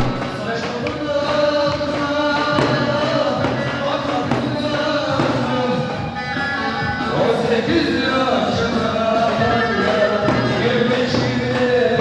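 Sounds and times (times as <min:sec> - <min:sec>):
live folk dance music: 0:00.0 - 0:12.0.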